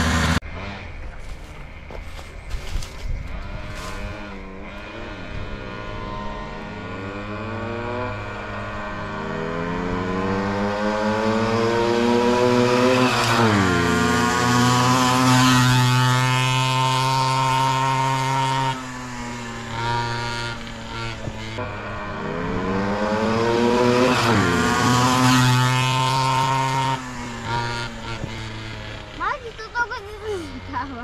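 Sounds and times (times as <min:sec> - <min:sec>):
small two-stroke engines revving: 0:00.0 - 0:31.0.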